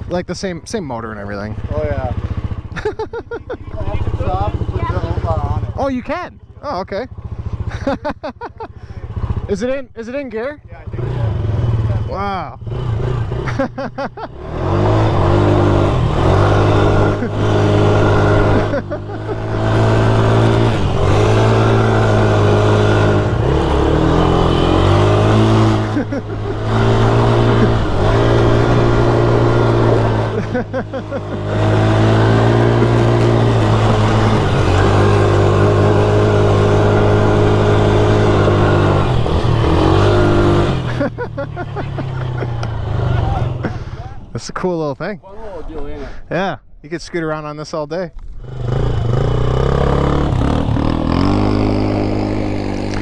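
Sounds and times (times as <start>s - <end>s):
atv engine revving: 0.0s - 44.8s, 48.1s - 53.0s.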